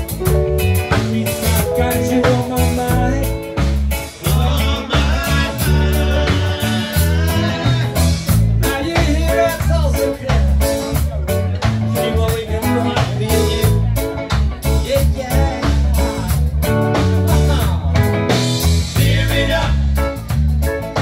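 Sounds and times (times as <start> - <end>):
man singing: 0.0 - 20.4
bass guitar: 0.0 - 21.0
drum kit: 0.0 - 21.0
electric guitar: 0.0 - 21.0
keyboard: 0.0 - 21.0.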